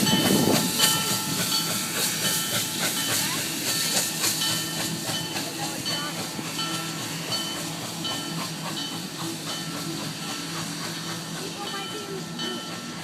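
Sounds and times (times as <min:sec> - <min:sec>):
train cars rolling past: 0:00.0 - 0:13.0.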